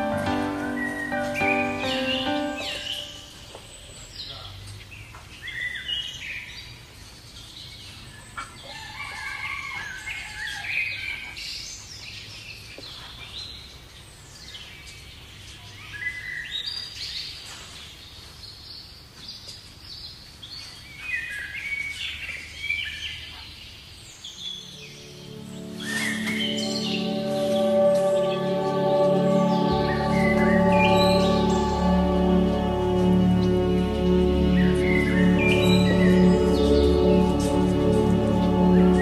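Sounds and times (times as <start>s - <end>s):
small birds chirping: 0.0s - 8.8s, 10.6s - 39.0s.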